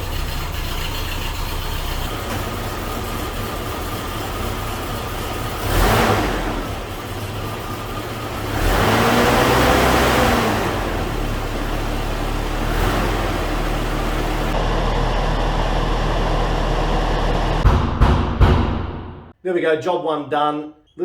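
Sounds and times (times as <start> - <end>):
car engine idling: 0.0 - 17.7.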